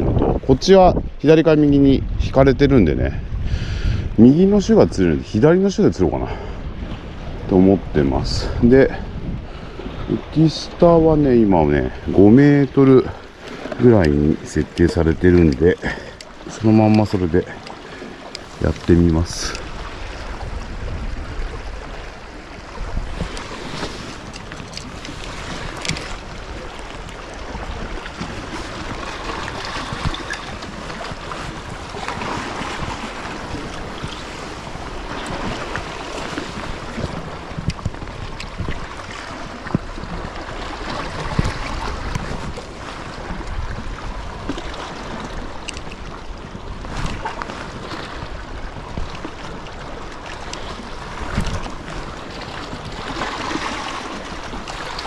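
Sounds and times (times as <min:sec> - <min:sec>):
wind buffeting the microphone: 0:00.0 - 0:55.0
sea water washing against rocks: 0:06.8 - 0:55.0.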